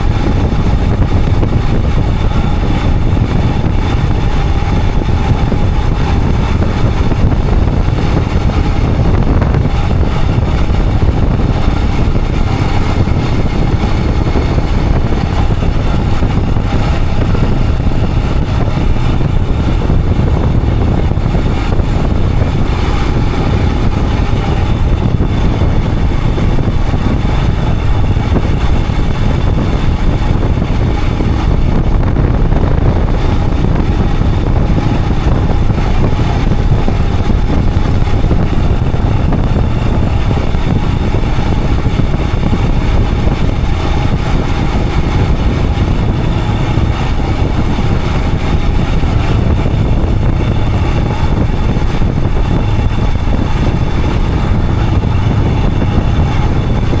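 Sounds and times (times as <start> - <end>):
motorcycle engine running: 0.0 - 57.0
road rumble: 0.0 - 57.0
wind noise on microphone: 0.0 - 57.0.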